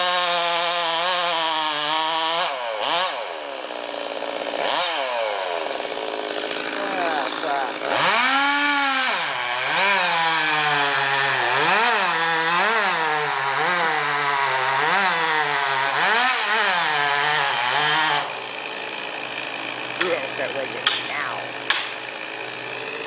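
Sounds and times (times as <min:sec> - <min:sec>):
chainsaw running at high revs: 0:00.0 - 0:23.0.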